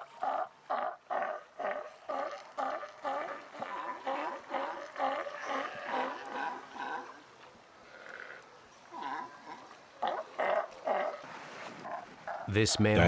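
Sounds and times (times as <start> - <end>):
sea lions barking: 0.0 - 12.7.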